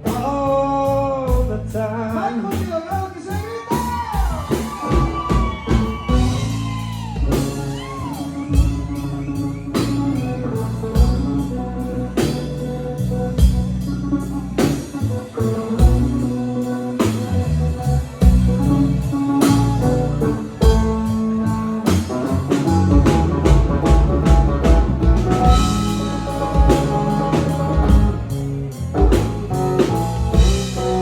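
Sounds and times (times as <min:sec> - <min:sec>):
bass guitar: 0:00.0 - 0:31.0
drum kit beat: 0:01.3 - 0:31.0
lead guitar bending notes: 0:04.8 - 0:31.0.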